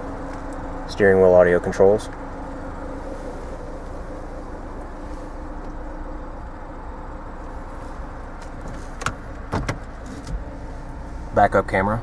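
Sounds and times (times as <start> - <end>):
car engine idling: 0.0 - 12.0
faint steady tones: 0.0 - 12.0.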